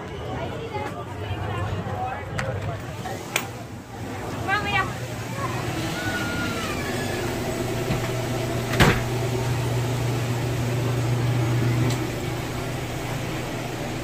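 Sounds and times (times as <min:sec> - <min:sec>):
kitchen equipment humming: 0:01.3 - 0:14.0.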